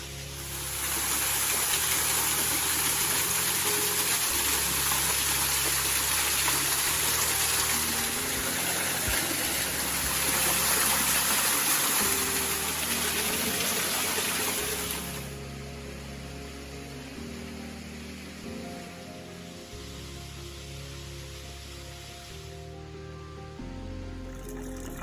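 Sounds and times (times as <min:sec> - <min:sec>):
rushing water: 0:00.0 - 0:22.6
soft background music: 0:00.0 - 0:25.0.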